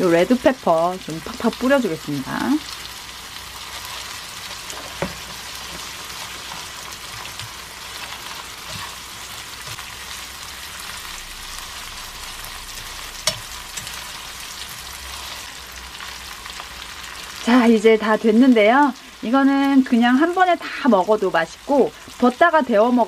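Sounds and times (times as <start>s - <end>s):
noodles sizzling in a pan: 0.0s - 23.0s.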